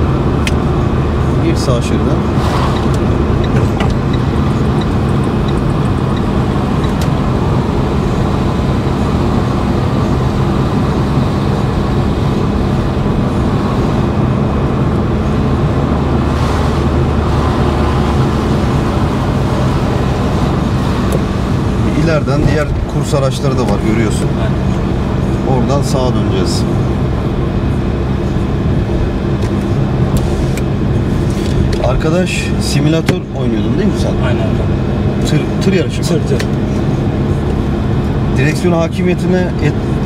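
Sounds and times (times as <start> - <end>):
car engine hum from inside cabin: 0.0 - 40.0
road rumble: 0.0 - 40.0.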